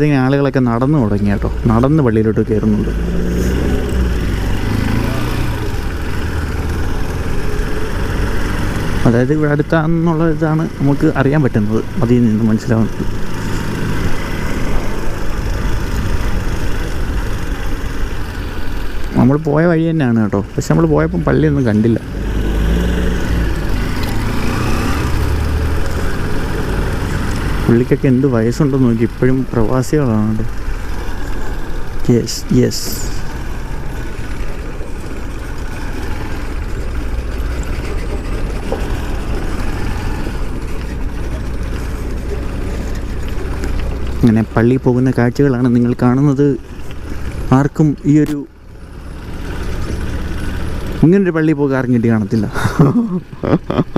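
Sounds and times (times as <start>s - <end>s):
motorcycle engine running: 0.0s - 53.9s
wind and road rumble: 0.0s - 53.9s.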